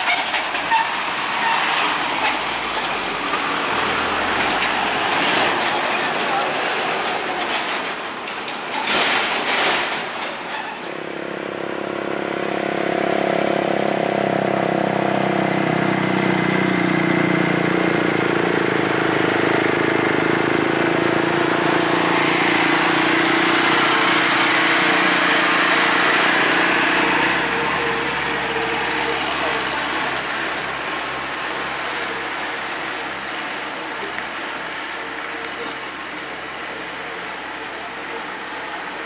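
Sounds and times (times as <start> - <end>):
diesel truck engine passing: 0.5 - 7.3, 11.0 - 39.0.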